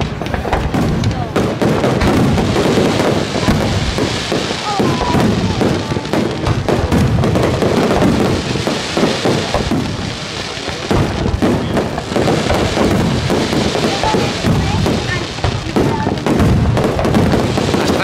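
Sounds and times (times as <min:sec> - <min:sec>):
firework shells bursting: 0:00.0 - 0:18.0.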